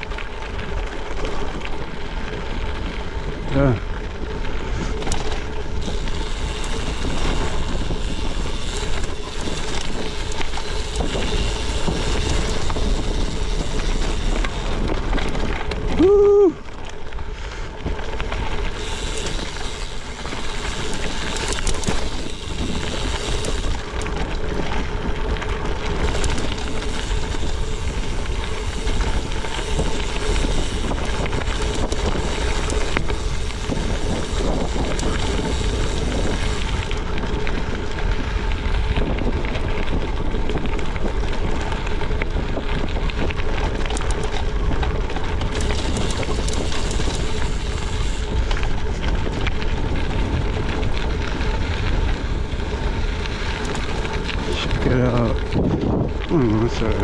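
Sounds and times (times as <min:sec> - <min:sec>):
bike tyres crunching on gravel: 0:00.0 - 0:57.0
wind buffeting microphone: 0:00.0 - 0:57.0.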